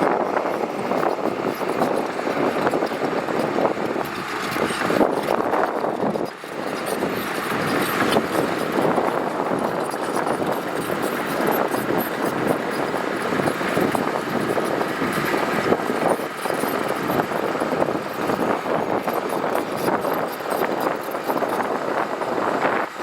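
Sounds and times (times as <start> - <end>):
diesel engine under load: 0.0 - 23.0
gravel grinding rush: 0.0 - 23.0.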